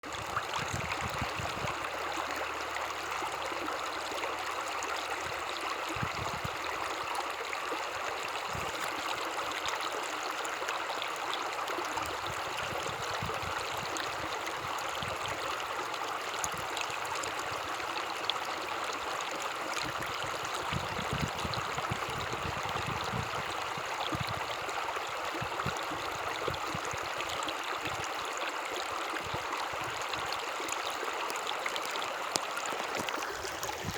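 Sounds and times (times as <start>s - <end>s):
stream rushing and babbling: 0.0s - 33.9s.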